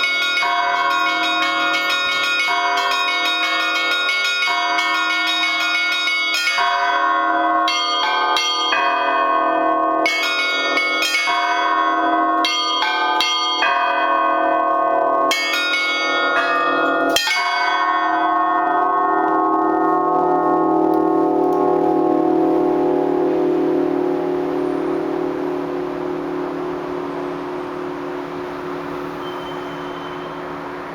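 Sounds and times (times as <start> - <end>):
church bells pealing: 0.0 - 30.9.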